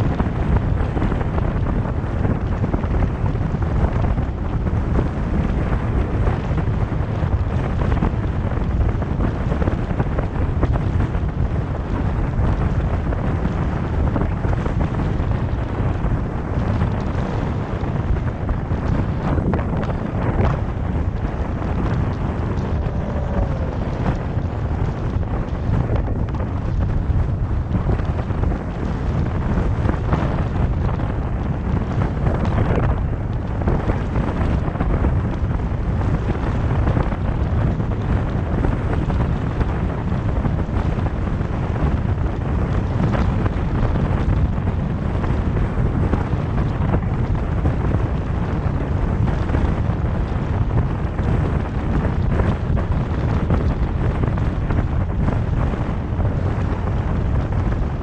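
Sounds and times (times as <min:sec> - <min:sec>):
car road and tyre noise: 0:00.0 - 0:58.0
wind rushing over microphone: 0:00.0 - 0:58.0.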